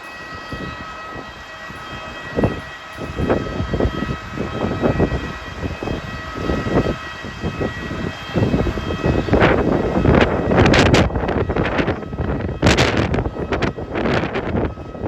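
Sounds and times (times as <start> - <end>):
jet airliner high whine: 0.0 - 15.0
wind buffeting microphone: 0.0 - 15.0.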